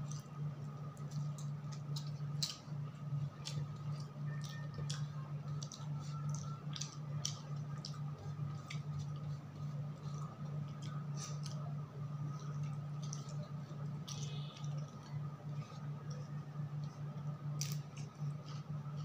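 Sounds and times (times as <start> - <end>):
person chewing with wet smacks: 0.0 - 19.0
steady low hum: 0.0 - 19.0.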